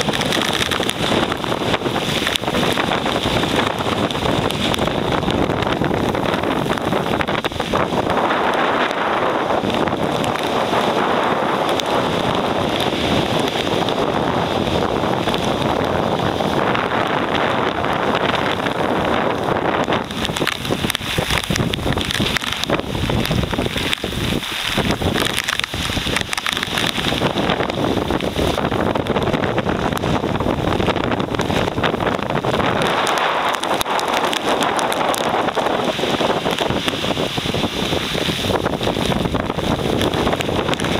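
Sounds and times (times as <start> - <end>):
strong wind on microphone: 0.0 - 40.9
surf breaking on shingle beach: 0.0 - 40.9.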